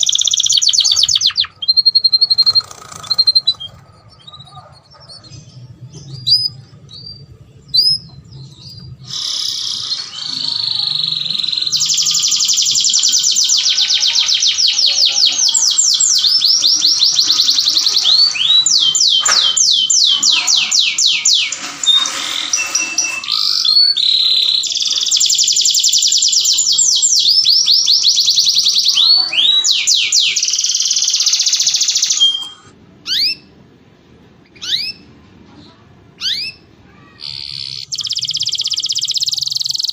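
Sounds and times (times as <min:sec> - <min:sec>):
canary singing: 0:00.0 - 0:33.6, 0:34.4 - 0:35.2, 0:36.1 - 0:39.9.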